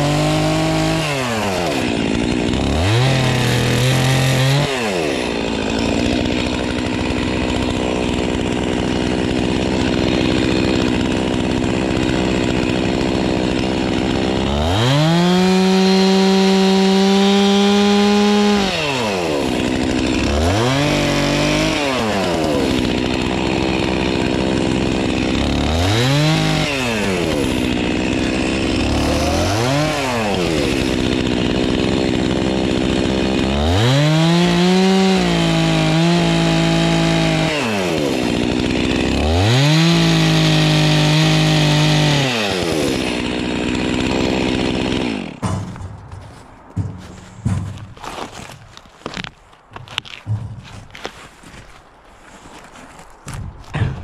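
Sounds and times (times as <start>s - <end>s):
chainsaw revving and cutting wood: 0.0s - 46.0s, 46.8s - 54.0s.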